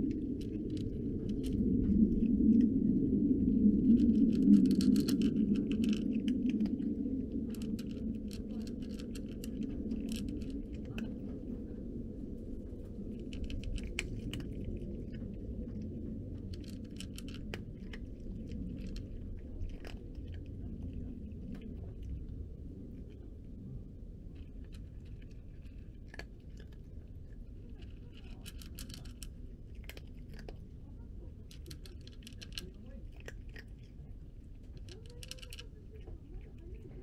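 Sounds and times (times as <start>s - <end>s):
cat chewing dry kibble: 0.0s - 37.0s
low background hum: 0.0s - 37.0s.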